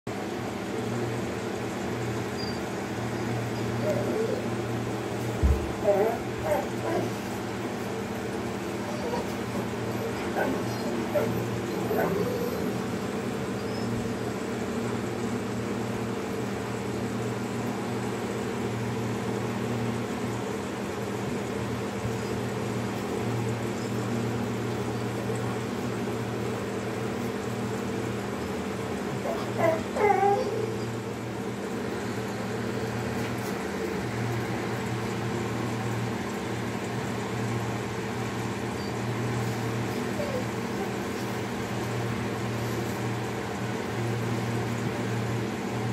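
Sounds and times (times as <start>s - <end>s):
electrical hum: 0.1s - 45.9s.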